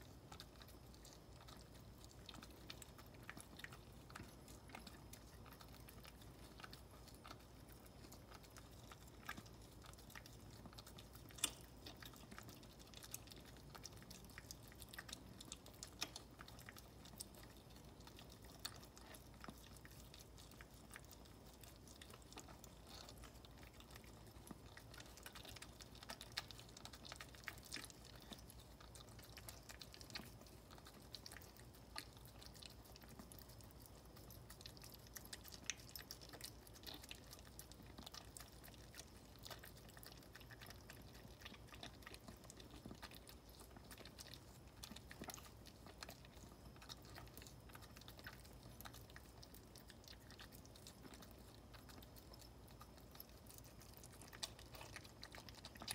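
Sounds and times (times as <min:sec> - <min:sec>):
dog licking puppies: 0:00.0 - 0:55.9
low steady hum: 0:00.0 - 0:55.9.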